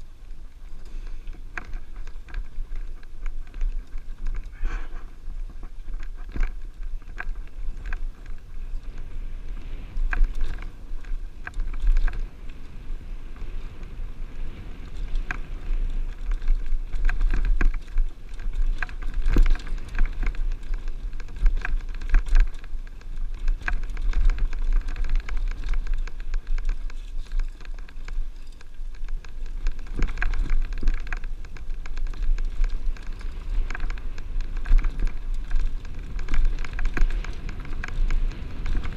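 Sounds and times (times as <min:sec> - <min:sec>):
bike tyres rattling over rock: 0:00.0 - 0:38.9
wind rumble on microphone: 0:00.0 - 0:38.9.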